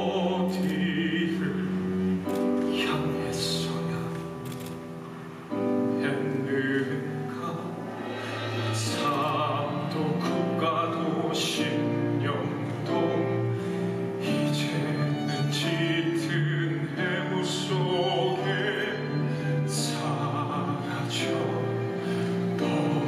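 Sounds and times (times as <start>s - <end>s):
man singing a ballad: 0.0s - 4.4s, 5.7s - 23.0s
instrumental accompaniment: 0.0s - 23.0s.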